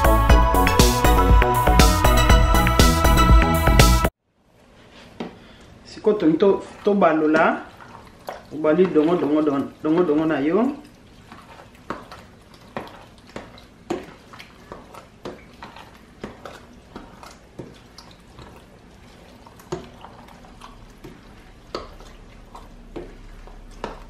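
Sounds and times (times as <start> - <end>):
wet sloshing of stew: 4.6 - 24.0.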